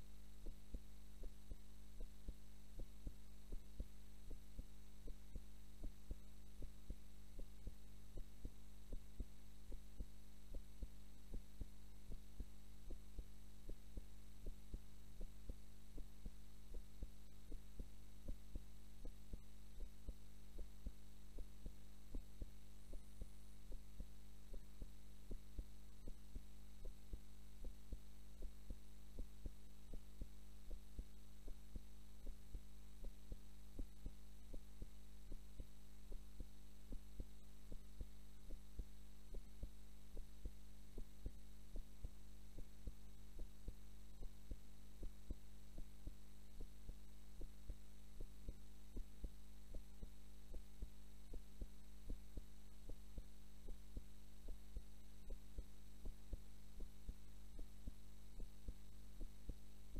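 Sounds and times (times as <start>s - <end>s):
heartbeat through chest microphone: 0.0s - 59.9s
low electrical hum: 0.0s - 59.9s.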